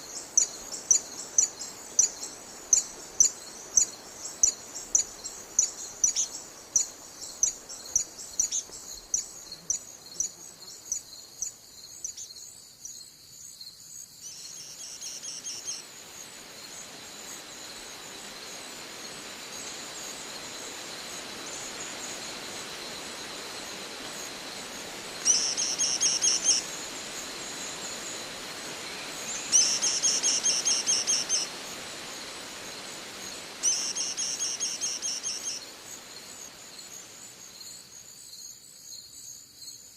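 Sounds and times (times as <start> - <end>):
soft background hiss: 0.0 - 39.9.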